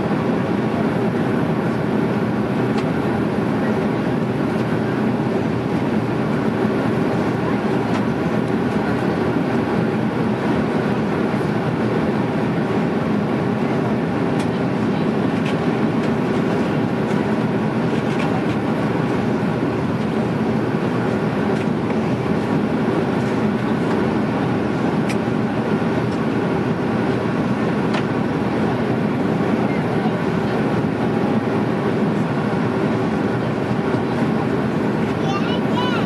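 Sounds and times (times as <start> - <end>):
airplane cabin engine roar: 0.0 - 36.0.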